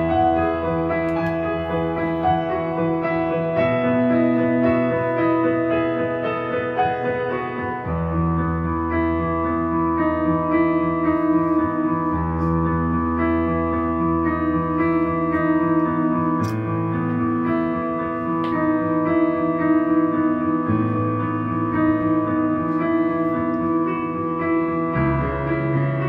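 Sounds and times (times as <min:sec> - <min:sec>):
sustained keyboard chords: 0:00.0 - 0:26.0.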